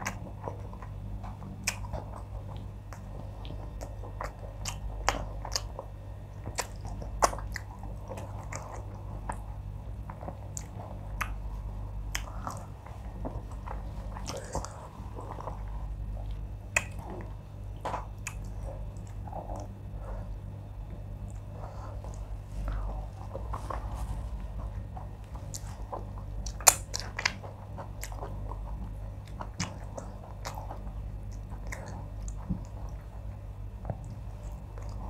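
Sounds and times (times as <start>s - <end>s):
close chewing with mouth smacks: 0.0s - 35.0s
low steady hum: 0.0s - 35.0s.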